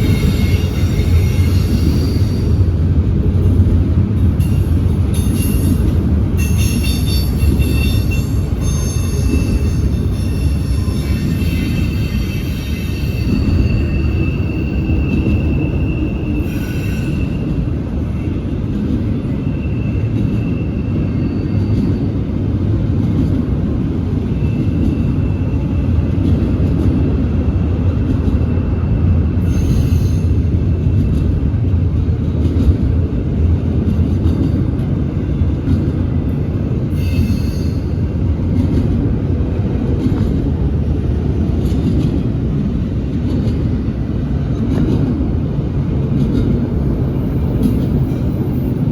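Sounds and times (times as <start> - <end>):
freight train rumbling on rails: 0.0 - 48.9.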